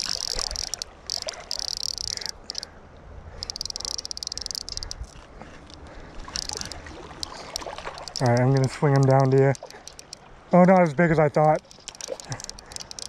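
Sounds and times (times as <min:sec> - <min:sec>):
fishing reel drag buzzing: 0:00.0 - 0:02.7, 0:03.4 - 0:10.2, 0:11.6 - 0:13.0
reel ratcheting clicks: 0:00.0 - 0:02.7, 0:03.4 - 0:13.0.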